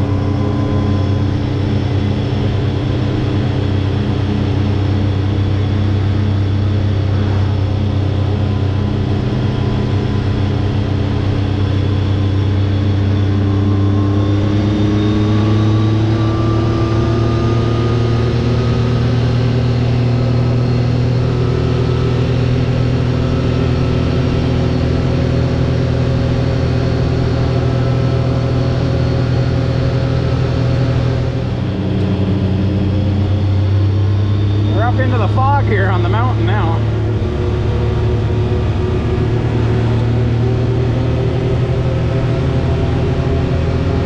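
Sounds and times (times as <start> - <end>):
utility vehicle engine running: 0.0 - 44.0.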